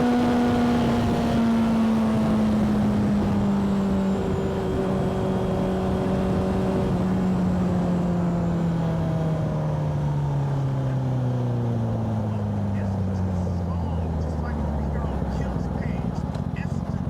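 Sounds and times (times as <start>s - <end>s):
motorcycle engine slowing: 0.0s - 17.0s.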